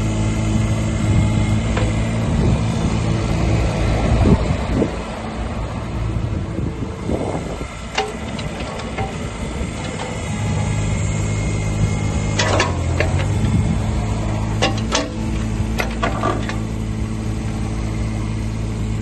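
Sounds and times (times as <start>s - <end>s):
excavator diesel engine: 0.0s - 19.0s.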